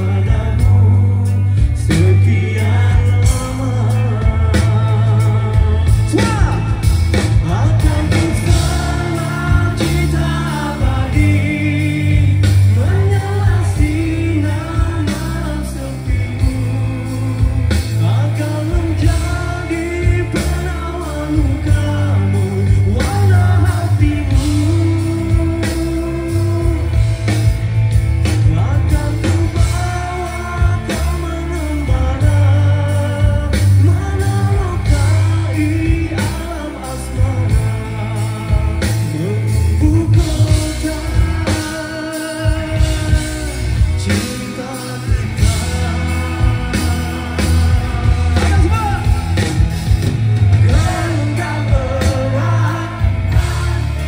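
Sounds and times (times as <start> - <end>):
heavy bass: 0.0 - 54.0
live rock band: 0.0 - 54.0
man singing: 0.0 - 54.0.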